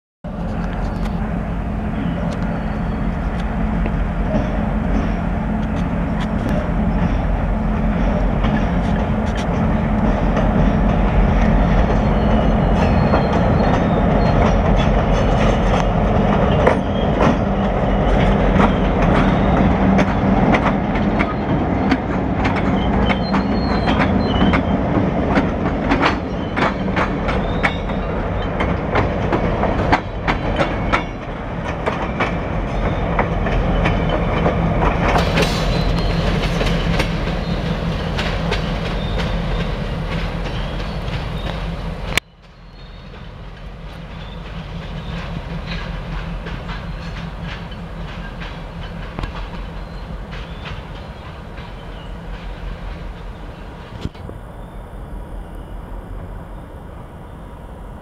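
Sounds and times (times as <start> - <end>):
locomotive engines droning: 0.2 - 58.0
train wheels clicking on rail joints: 0.3 - 54.4.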